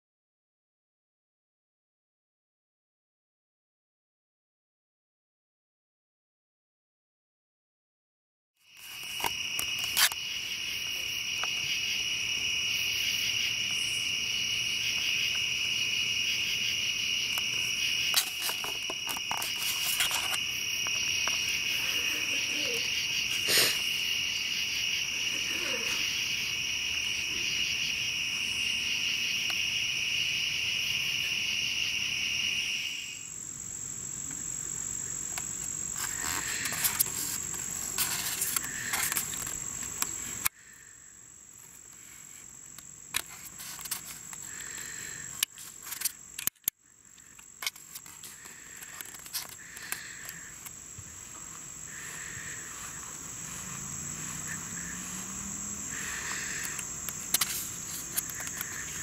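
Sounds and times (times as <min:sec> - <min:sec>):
crickets trilling: 0:08.6 - 0:59.0.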